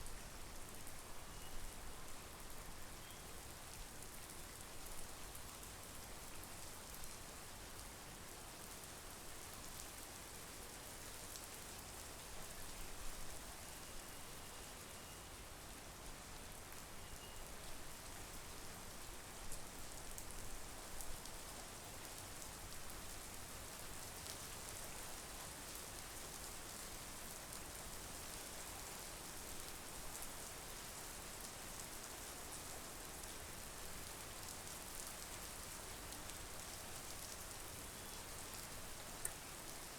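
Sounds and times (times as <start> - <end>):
rain on lake and trees: 0.0 - 39.9.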